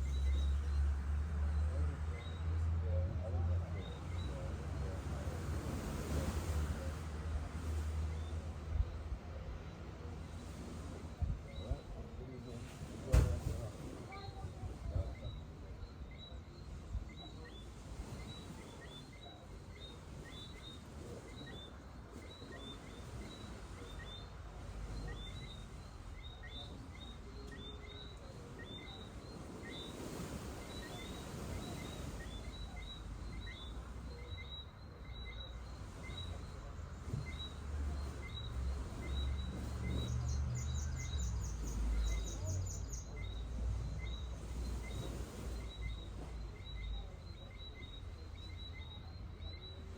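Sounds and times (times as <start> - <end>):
shoreline ambience hiss: 0.0 - 49.9.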